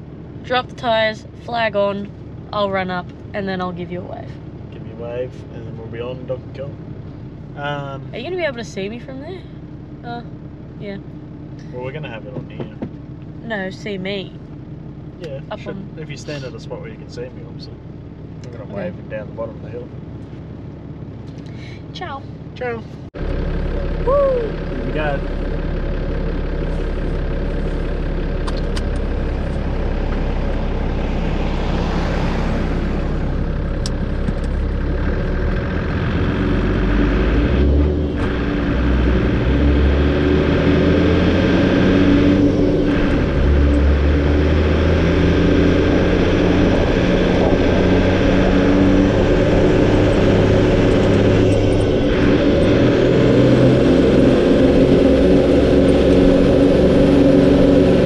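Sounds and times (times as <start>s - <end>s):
diesel engine working hard: 0.0s - 58.0s.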